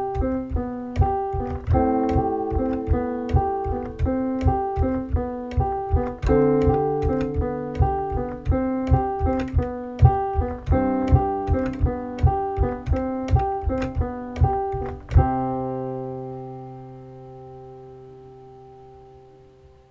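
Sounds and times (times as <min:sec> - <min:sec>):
piano broken-chord pattern: 0:00.0 - 0:19.9.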